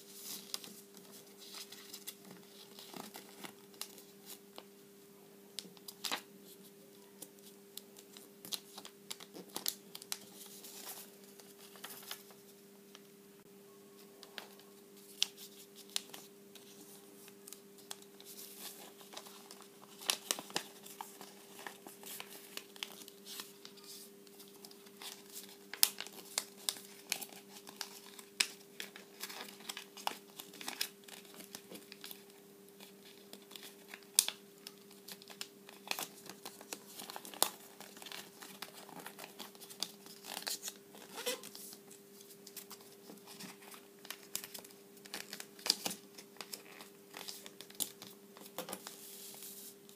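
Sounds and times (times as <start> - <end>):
faint steady hum: 0.0 - 49.9
paper crinkling and rustling: 0.1 - 4.7, 7.2 - 12.5, 14.2 - 49.9.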